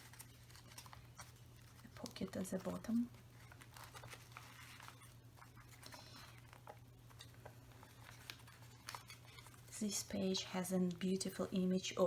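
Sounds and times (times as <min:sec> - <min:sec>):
paper pages rustling: 0:00.0 - 0:11.8.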